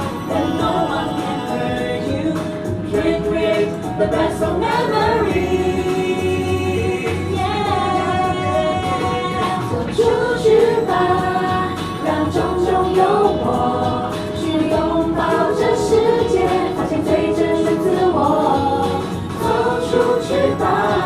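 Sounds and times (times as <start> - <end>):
instrumental backing: 0.0 - 21.0
sung vocals: 0.0 - 21.0.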